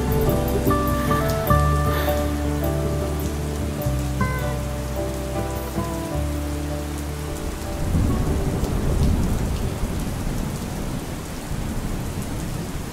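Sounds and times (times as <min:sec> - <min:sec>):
steady rain: 0:00.0 - 0:12.9
thunder rumbling: 0:00.0 - 0:12.9.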